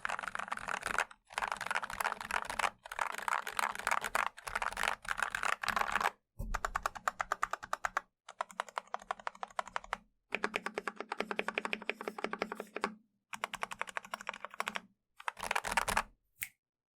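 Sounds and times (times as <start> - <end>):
mechanical keyboard clacks: 0.0 - 16.0.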